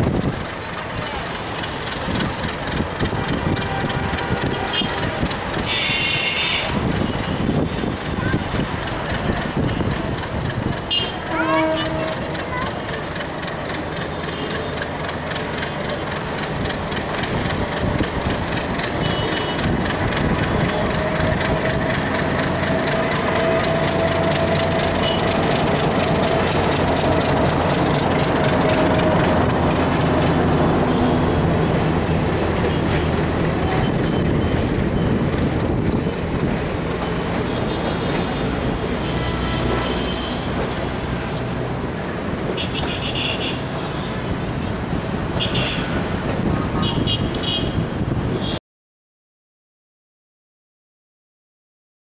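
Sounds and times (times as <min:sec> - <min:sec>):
wheels clickety-clack over rail joints: 0:00.0 - 0:48.6.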